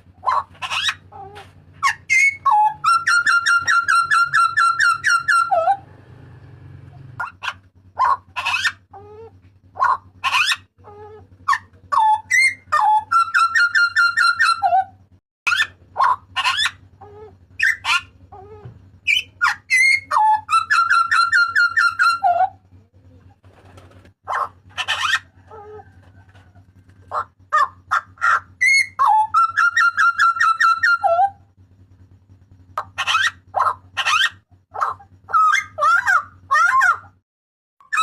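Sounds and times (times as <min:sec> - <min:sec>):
bird calling loudly: 0:00.0 - 0:05.9, 0:07.0 - 0:22.6, 0:23.6 - 0:26.0, 0:27.0 - 0:31.5, 0:32.8 - 0:37.2
faint low hum: 0:00.0 - 0:37.2.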